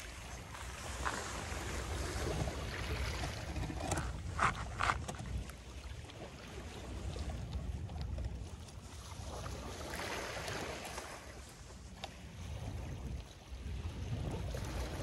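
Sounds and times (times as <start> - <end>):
waves lapping on stony shore: 0.0 - 15.0
wind rumble on microphone: 0.0 - 15.0.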